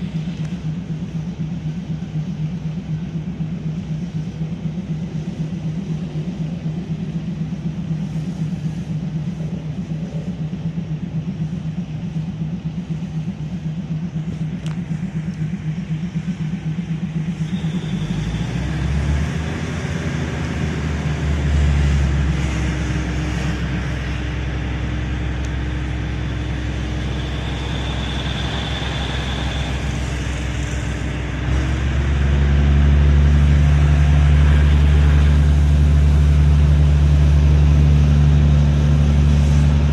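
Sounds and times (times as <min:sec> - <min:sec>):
diesel train engine droning: 0:00.0 - 0:39.9
faint high whine: 0:00.0 - 0:39.9.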